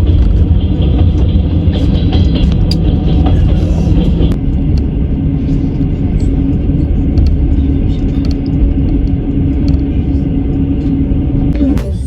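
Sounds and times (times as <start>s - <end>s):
steady hum: 0.0s - 12.0s
train wheels rumbling on rails: 0.0s - 12.0s.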